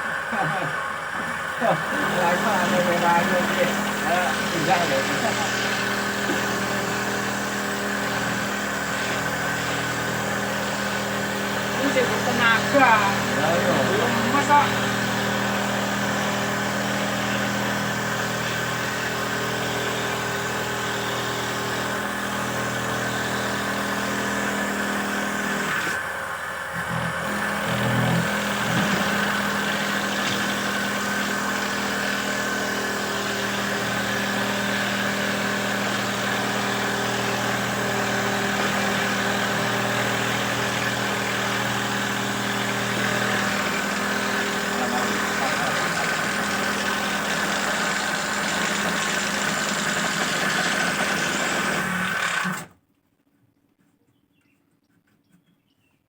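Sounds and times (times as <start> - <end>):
motor running steadily: 0.0 - 52.8.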